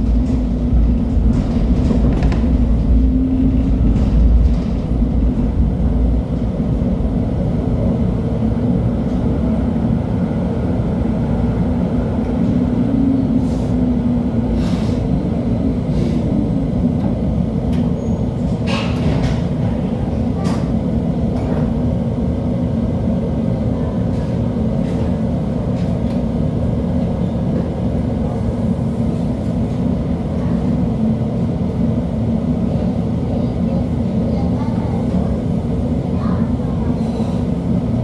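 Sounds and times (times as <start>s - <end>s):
light rail car rumbling: 0.0s - 38.0s.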